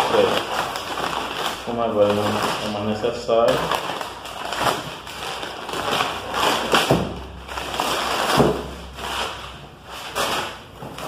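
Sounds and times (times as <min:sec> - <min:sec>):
packing paper rustling and crinkling: 0:00.0 - 0:11.0.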